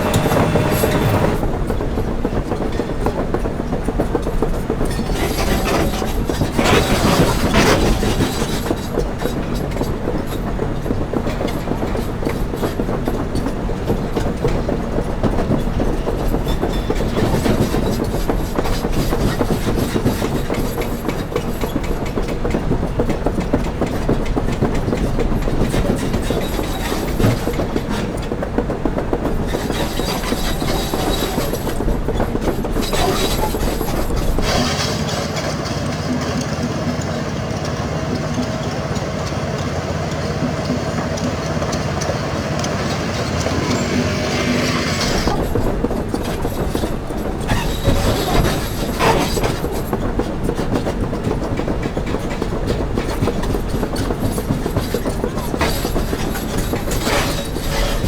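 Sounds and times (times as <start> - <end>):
excavator diesel engine under load: 0.0 - 58.0
machine clanks and rattles: 0.0 - 58.0.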